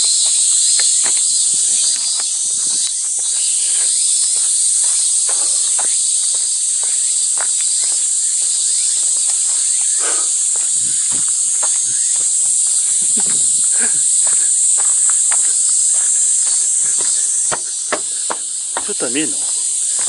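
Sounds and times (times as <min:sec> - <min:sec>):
cicadas buzzing: 0:00.0 - 0:20.0
footsteps on path: 0:00.0 - 0:20.0.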